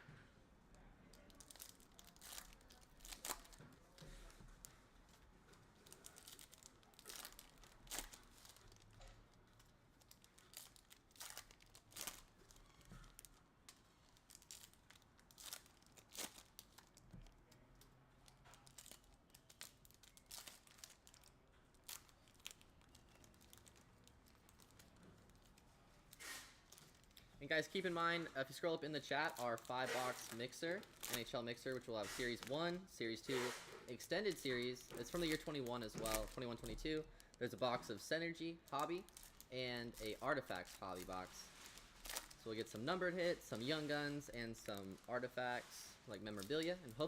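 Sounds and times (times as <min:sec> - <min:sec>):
card pack wrappers tearing and crinkling: 0:01.2 - 0:03.7, 0:05.8 - 0:09.0, 0:10.0 - 0:13.4, 0:14.0 - 0:17.4, 0:18.2 - 0:32.7, 0:33.3 - 0:38.1, 0:38.7 - 0:45.6.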